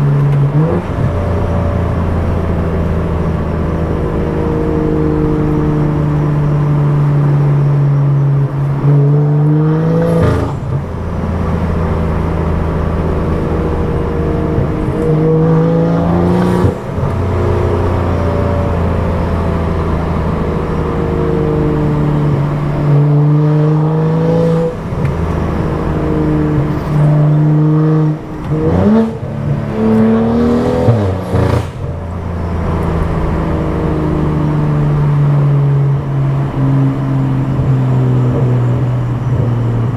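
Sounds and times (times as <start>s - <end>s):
car engine through loud exhaust: 0.0s - 39.9s.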